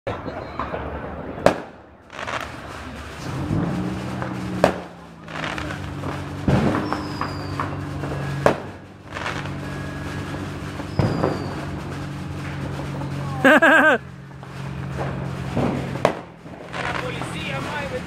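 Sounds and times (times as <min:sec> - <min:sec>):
firecrackers banging: 0:00.1 - 0:18.0
car engine idling: 0:01.9 - 0:18.0.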